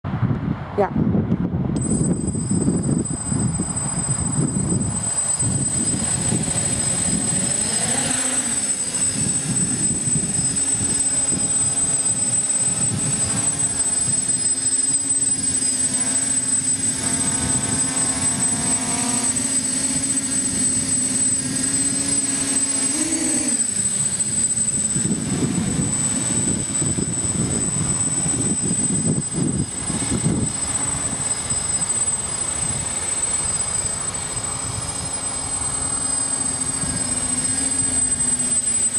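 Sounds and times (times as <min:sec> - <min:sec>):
wind buffeting microphone: 0:00.1 - 0:38.9
drone motors humming: 0:01.4 - 0:38.9.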